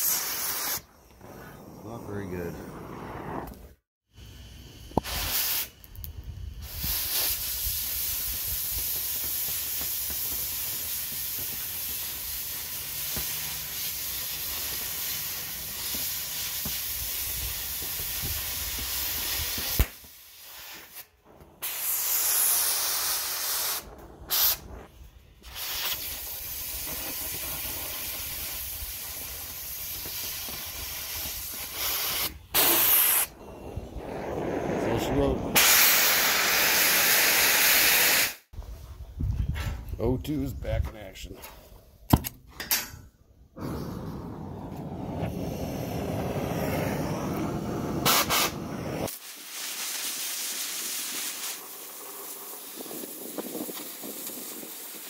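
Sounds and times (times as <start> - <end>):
cutting torch hissing: 0.0 - 38.5, 43.6 - 55.0.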